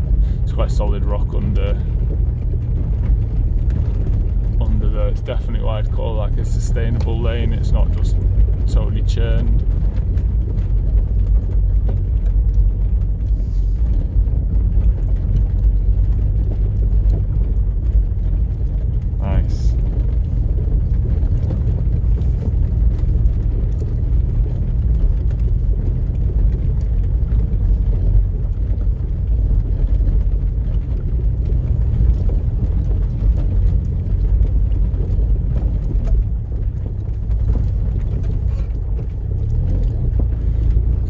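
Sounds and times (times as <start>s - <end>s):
diesel engine rumbling: 0.0s - 41.0s
wheels knocking on stones: 0.0s - 41.0s.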